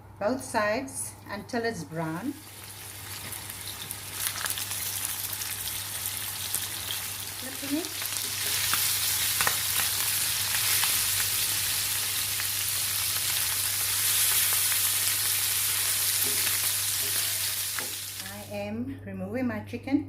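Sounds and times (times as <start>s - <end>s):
chicken sizzling in oil: 2.2s - 18.5s.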